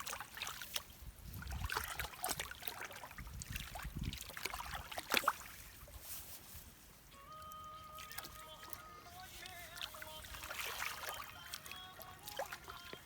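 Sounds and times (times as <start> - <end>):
splashing in muddy water: 0.0 - 13.0.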